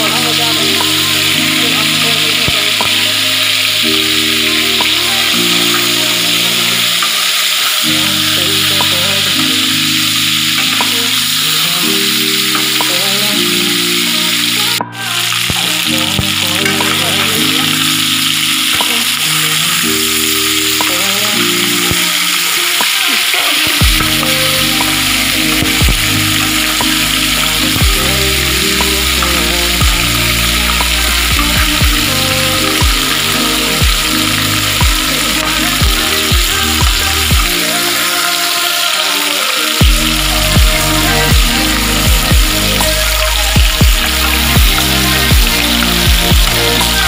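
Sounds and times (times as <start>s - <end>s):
background music: 0.0s - 47.0s
fish sizzling in hot oil: 0.0s - 47.0s.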